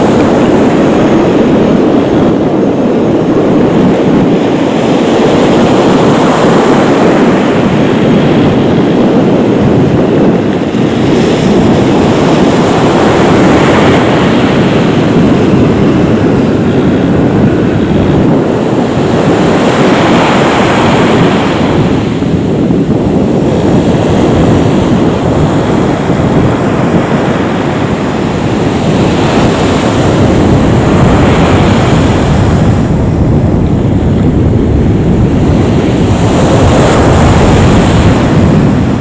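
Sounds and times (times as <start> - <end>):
jet engines running: 0.0 - 39.0.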